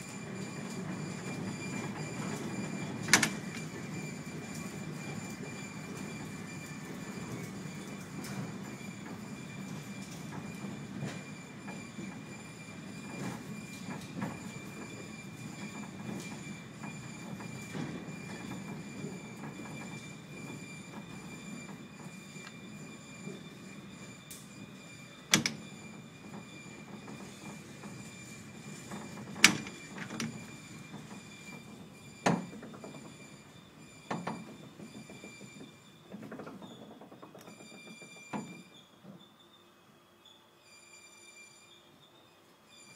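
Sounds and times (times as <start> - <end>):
tram running gear rumbling: 0.0 - 38.2
constant high whine: 0.0 - 42.0.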